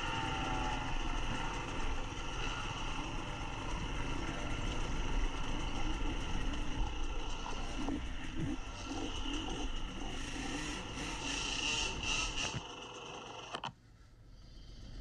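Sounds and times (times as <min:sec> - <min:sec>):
dirt bike engine close by: 0:00.0 - 0:13.5
other dirt bikes running: 0:00.0 - 0:13.7.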